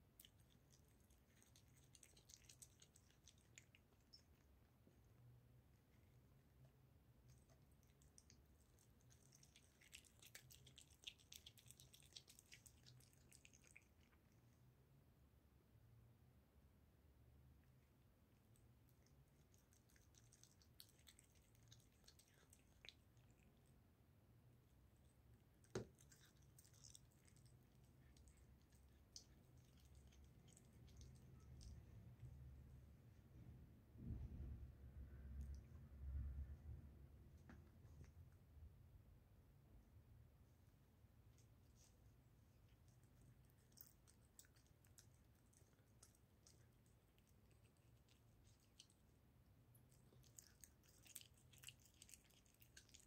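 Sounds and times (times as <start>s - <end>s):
cat chewing and licking: 0.0s - 15.4s, 17.4s - 53.0s
low steady hum: 0.0s - 53.0s.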